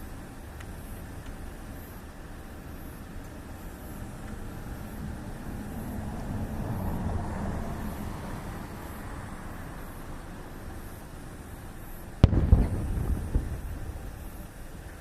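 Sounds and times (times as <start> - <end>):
low rumble of passing vehicle: 1.9 - 15.0.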